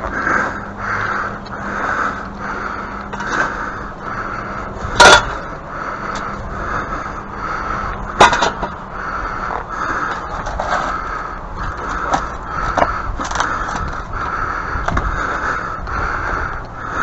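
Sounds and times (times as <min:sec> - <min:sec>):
steady pulsing background: 0:00.0 - 0:17.0.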